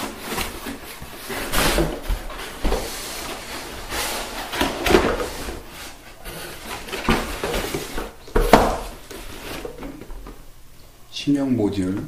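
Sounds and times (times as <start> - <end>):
cardboard scraping and rustling: 0.0 - 10.4.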